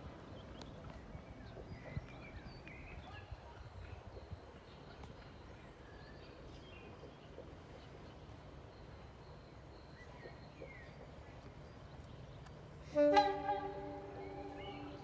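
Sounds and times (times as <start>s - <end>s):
birds chirping and warbling: 0.4s - 15.0s.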